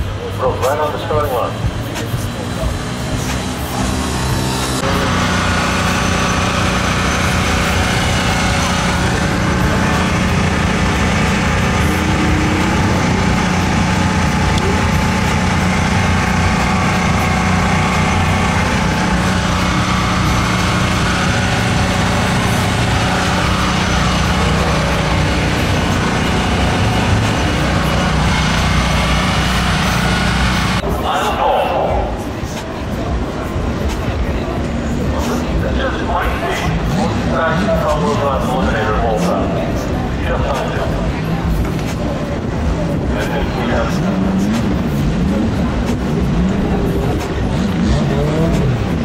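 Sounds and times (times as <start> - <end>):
engine idling: 0.0 - 49.0.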